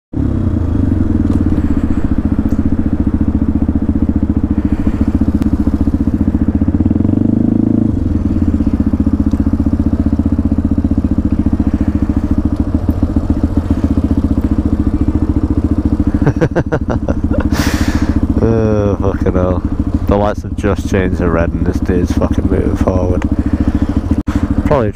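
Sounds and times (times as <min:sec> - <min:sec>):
small motorcycle engine running: 0:00.2 - 0:24.9.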